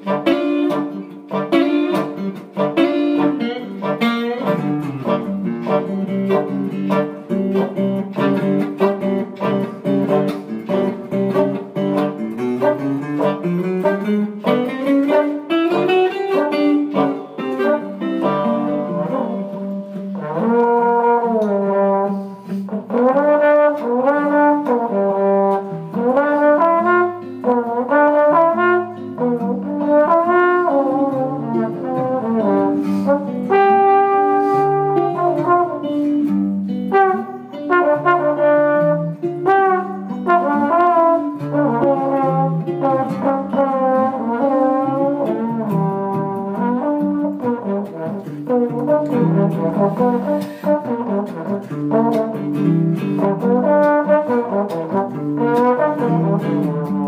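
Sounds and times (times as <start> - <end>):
acoustic guitar: 0.0 - 57.0
clarinet: 0.0 - 57.0
trombone playing sliding notes: 0.0 - 57.0.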